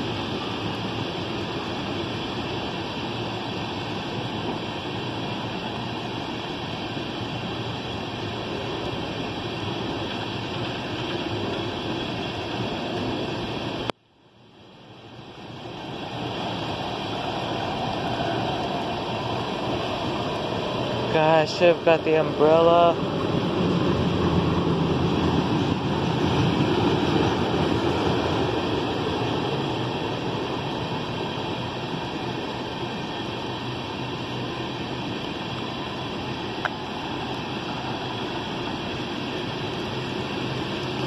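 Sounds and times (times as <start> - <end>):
train wheels rushing on rail: 0.0 - 13.9, 14.8 - 41.0
heavy rain: 0.0 - 41.0.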